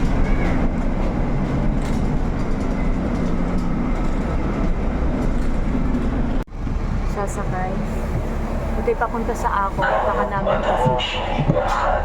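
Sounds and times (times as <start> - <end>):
bus rumble and hum: 0.0 - 12.0.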